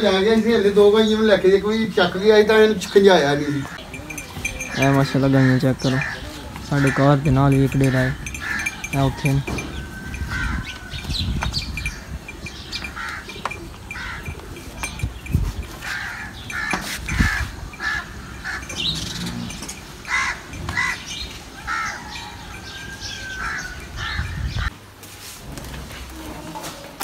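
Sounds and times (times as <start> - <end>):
birds calling: 0.0 - 24.8.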